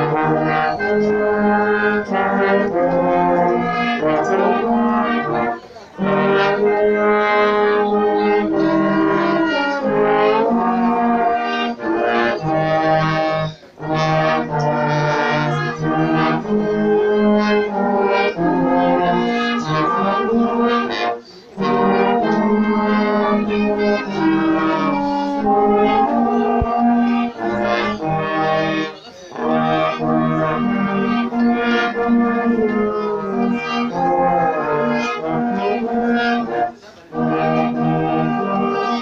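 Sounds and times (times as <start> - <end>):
brass ensemble playing chords: 0.0 - 39.0.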